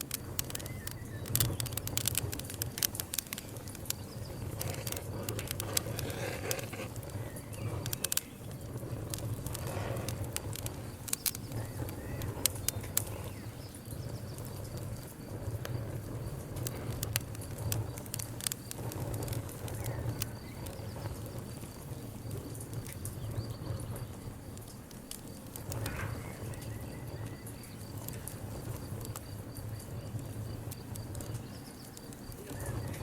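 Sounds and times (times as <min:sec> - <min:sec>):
low rumble of flames: 0:00.0 - 0:33.0
wood crackling and popping: 0:00.0 - 0:33.0.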